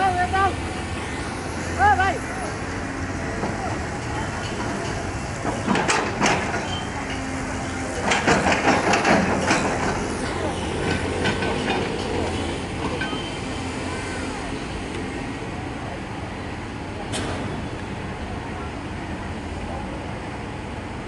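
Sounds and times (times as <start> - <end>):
excavator diesel engine running: 0.0 - 21.0
traffic noise: 0.0 - 21.0.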